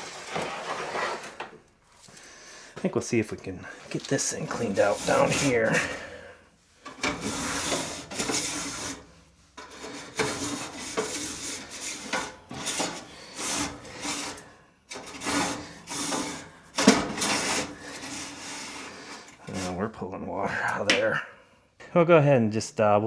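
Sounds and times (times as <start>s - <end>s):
scraping lint from dryer vent: 0.0s - 2.8s, 3.6s - 20.1s.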